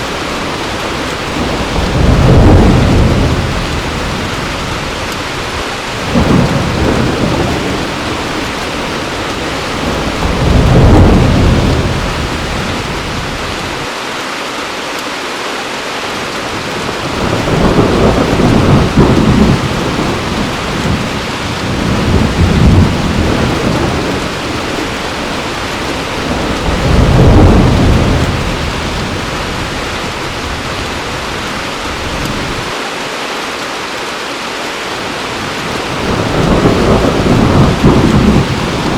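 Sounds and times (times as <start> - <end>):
thunder rumbling: 0.0 - 13.9, 16.5 - 32.8, 35.4 - 38.9
heavy rain: 0.0 - 38.9.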